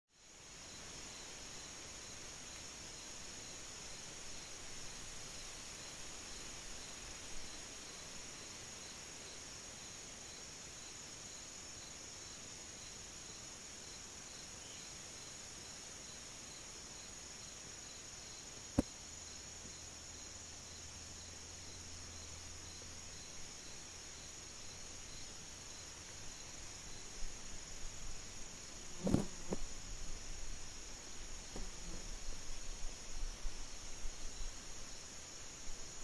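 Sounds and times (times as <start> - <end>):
high-pitched insect chorus: 0.2 - 36.0
insect chirping: 0.2 - 36.0.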